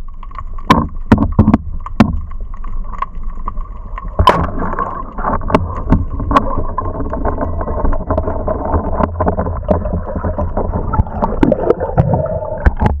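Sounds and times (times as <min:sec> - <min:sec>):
sharp clicks and knocks: 0:00.1 - 0:13.0
muffled underwater rush: 0:02.4 - 0:13.0.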